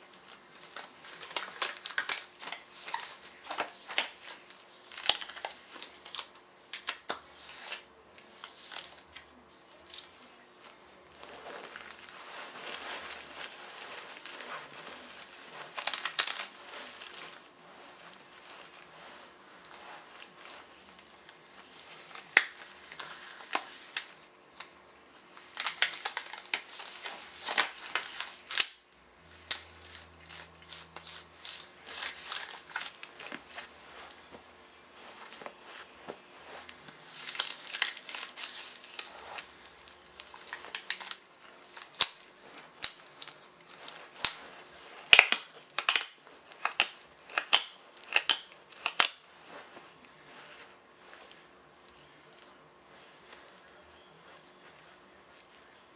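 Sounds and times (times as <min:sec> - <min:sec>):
latex gloves rustling and stretching: 0:00.0 - 0:55.9.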